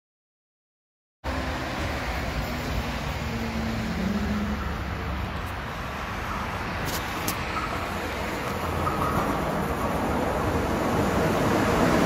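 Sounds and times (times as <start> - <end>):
engine hum: 1.2 - 12.0
road traffic rumble: 1.2 - 12.0.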